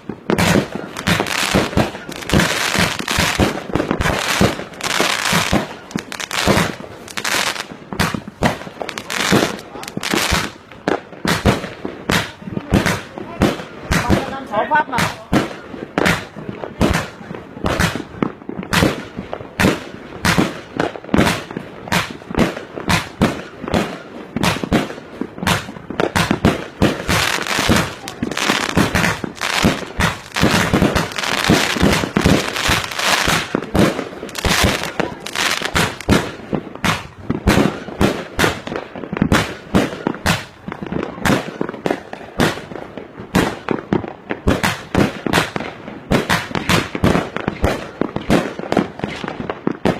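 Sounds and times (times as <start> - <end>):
fireworks banging and crackling: 0.0 - 49.9.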